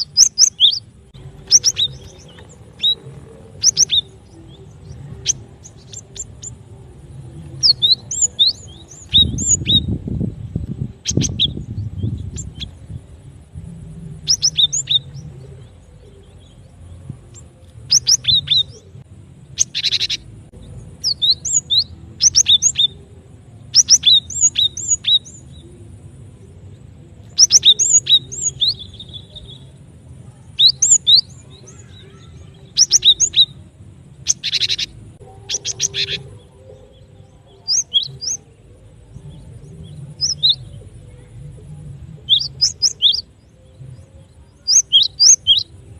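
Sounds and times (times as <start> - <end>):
bird chirping and trilling: 0.0 - 26.0, 27.2 - 45.9.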